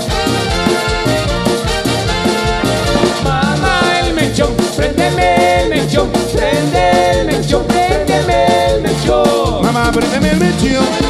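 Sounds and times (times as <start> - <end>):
latin dance band playing: 0.0 - 11.0.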